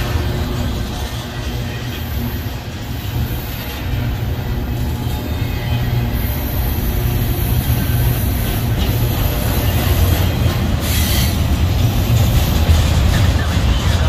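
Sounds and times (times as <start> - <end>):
freight train rolling past: 0.0 - 14.0.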